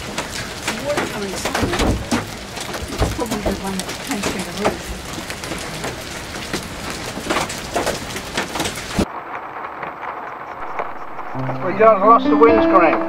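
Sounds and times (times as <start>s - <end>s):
muffled rain on car windscreen: 0.0s - 11.4s
heavy rain on hard surfaces: 0.0s - 13.0s.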